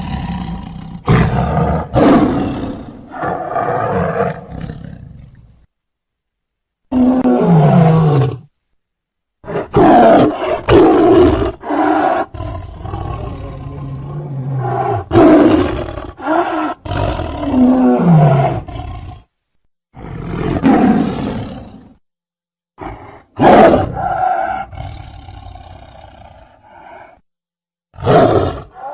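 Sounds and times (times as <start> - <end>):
tiger growling and roaring: 0.0 - 5.6, 6.9 - 8.5, 9.4 - 19.3, 19.9 - 22.0, 22.8 - 27.2, 27.9 - 28.9.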